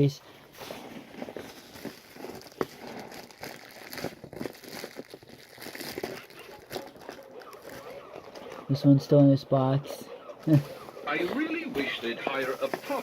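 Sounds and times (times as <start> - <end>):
plastic packaging crinkling: 0.4 - 8.7, 10.4 - 13.0.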